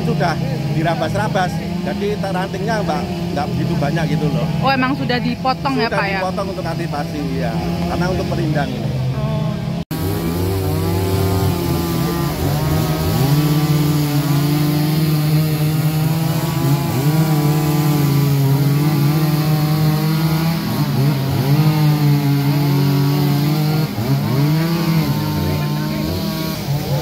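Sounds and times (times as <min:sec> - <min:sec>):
chainsaw engines revving: 0:00.0 - 0:27.0.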